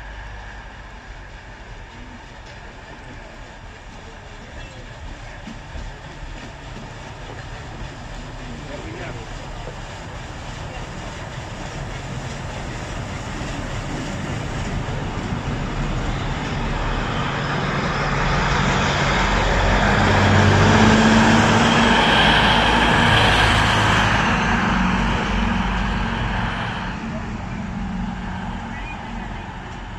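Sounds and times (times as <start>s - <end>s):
locomotive engine hum: 0.0s - 29.9s
rail noise: 0.0s - 29.9s.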